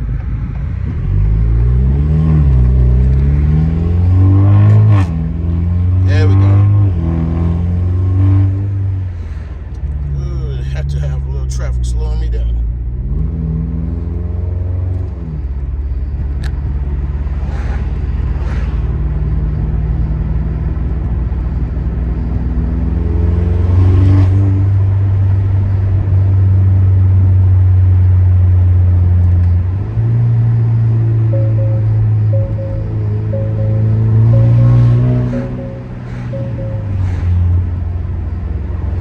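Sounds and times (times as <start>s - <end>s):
car engine droning: 0.0s - 39.0s.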